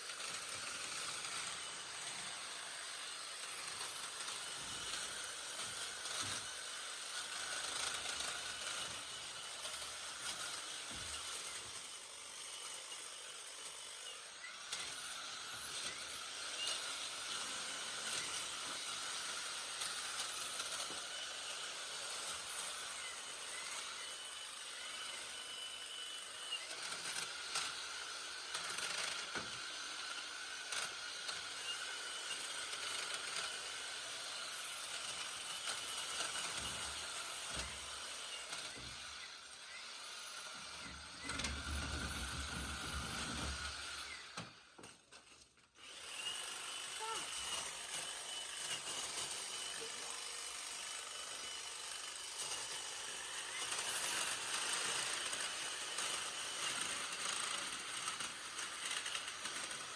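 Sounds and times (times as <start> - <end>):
hedge trimmer whining: 0.0 - 59.9.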